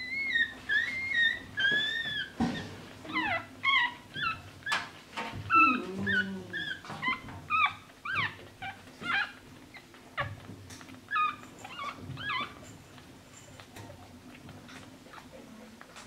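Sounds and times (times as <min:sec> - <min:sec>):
puppies squeaking and whimpering: 0:00.0 - 0:16.0.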